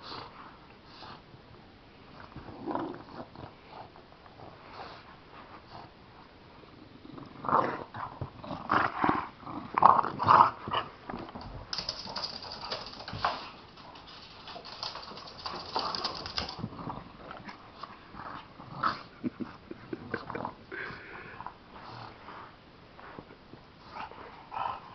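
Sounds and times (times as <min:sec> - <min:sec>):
dogs play-growling: 0:02.1 - 0:20.8, 0:21.4 - 0:23.2, 0:23.8 - 0:24.9.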